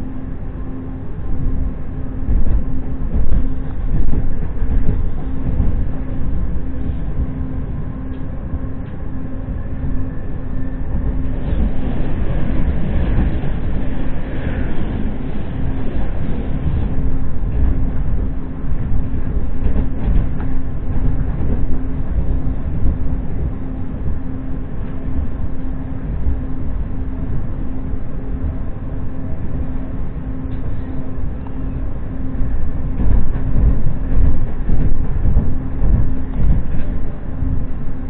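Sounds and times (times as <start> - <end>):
low steady hum: 0.0 - 38.0
train wheels rumbling on rails: 0.0 - 38.0.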